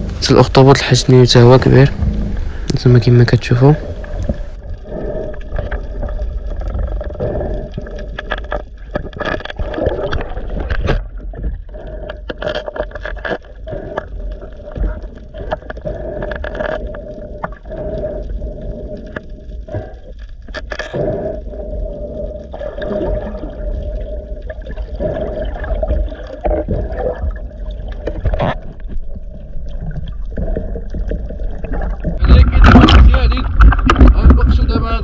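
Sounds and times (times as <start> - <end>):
water gurgling and sloshing: 0.0 - 35.0.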